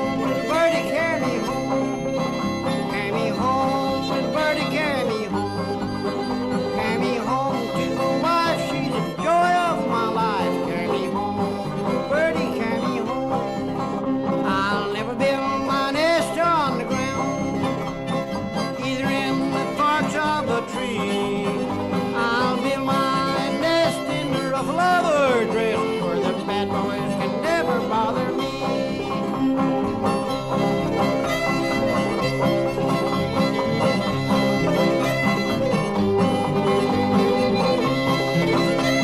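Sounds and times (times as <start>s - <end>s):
banjo: 0.0s - 39.0s
fiddle sliding between notes: 0.0s - 39.0s
guitar: 0.0s - 39.0s.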